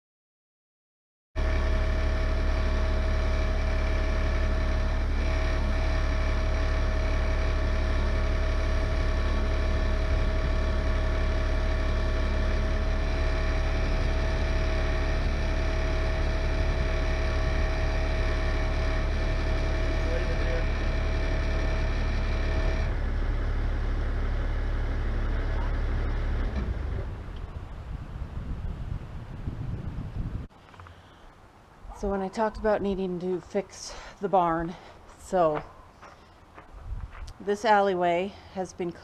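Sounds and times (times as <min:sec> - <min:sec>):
engine running steadily: 0:01.4 - 0:39.0.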